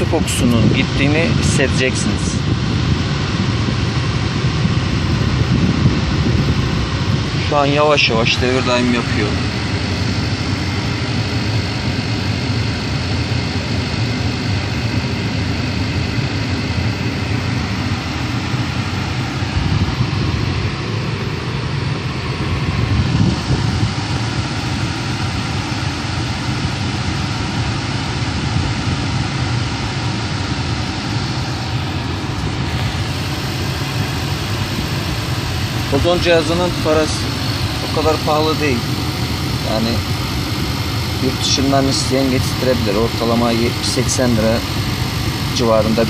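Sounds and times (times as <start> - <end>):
car air conditioning blower: 0.0 - 46.0
car engine idling: 0.0 - 46.0.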